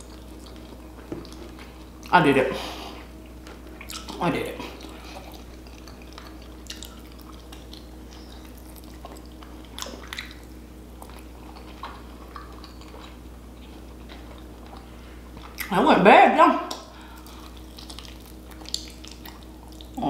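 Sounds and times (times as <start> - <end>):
wet chewing and mouth smacks: 0.0 - 2.1, 3.1 - 15.7, 16.7 - 20.0
steady low hum: 0.0 - 20.0.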